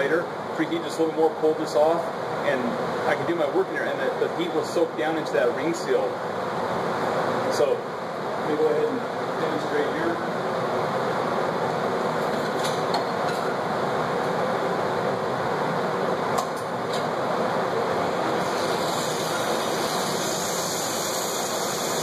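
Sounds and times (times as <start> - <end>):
whirring shop machinery: 0.0 - 22.0.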